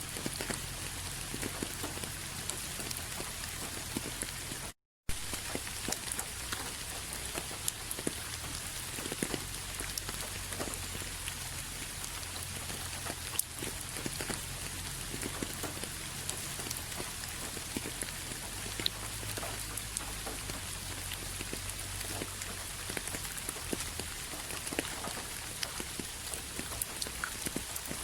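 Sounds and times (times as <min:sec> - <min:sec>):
raindrops striking close by: 0:00.0 - 0:28.0
steady rain falling: 0:00.0 - 0:28.0.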